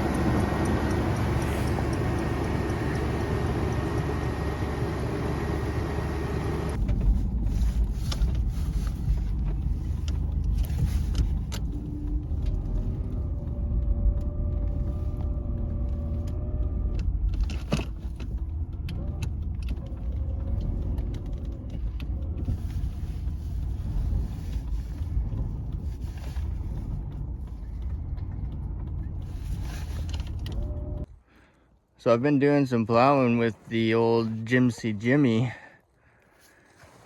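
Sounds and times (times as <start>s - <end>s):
plow vehicle rumble: 0.0s - 31.7s.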